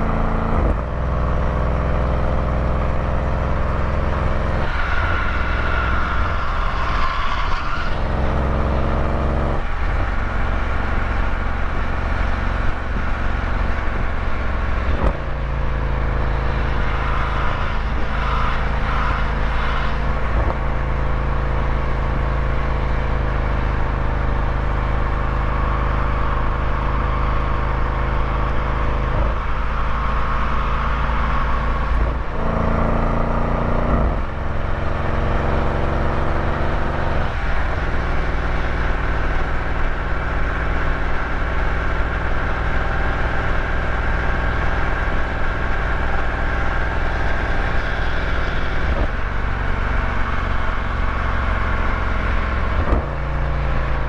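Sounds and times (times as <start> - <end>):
road and wind rumble: 0.0 - 54.0
vehicle engine running: 0.0 - 54.0.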